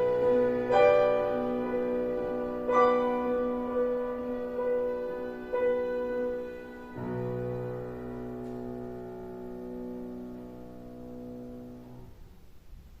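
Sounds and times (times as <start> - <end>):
piano chord ringing: 0.0 - 12.3.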